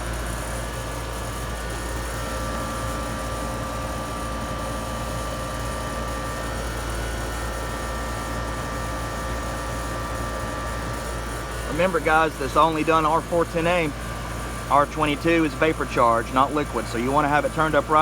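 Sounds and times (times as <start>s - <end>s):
air conditioner compressor humming: 0.0s - 18.0s.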